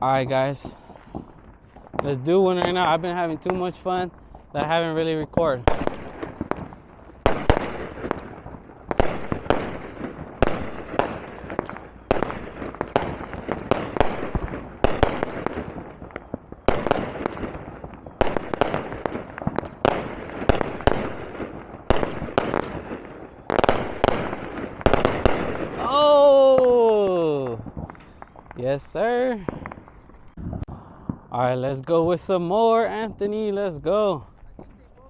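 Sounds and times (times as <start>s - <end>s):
fireworks banging and crackling: 0.0s - 35.0s.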